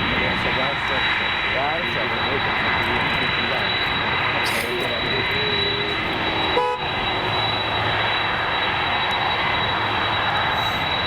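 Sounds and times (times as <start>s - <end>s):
high steady engine whine: 0.0s - 11.0s
jet engines rushing: 0.0s - 11.0s.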